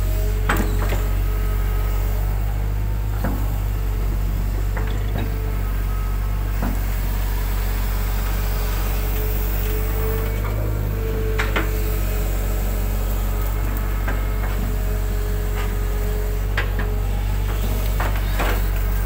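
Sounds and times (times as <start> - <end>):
excavator diesel drone: 0.0 - 19.0
hydraulic whine: 0.0 - 19.0.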